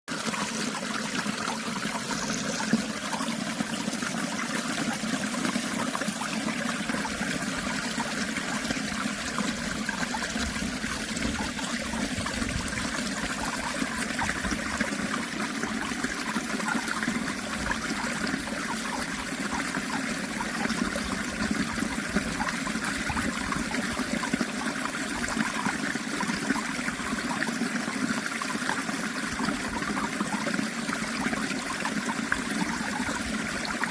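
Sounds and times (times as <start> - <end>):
stream water flowing: 0.1 - 33.9.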